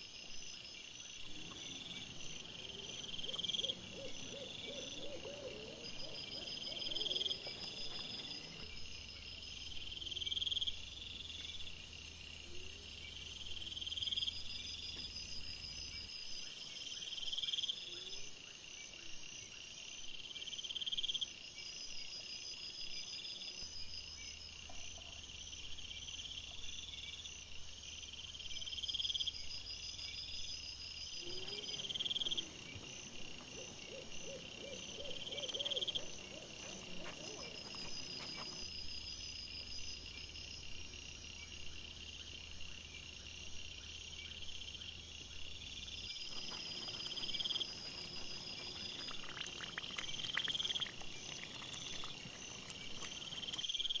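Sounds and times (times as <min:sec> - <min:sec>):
cricket rising chirps: 0:00.0 - 0:19.6, 0:20.2 - 0:54.0
steady high insect trill: 0:00.0 - 0:54.0.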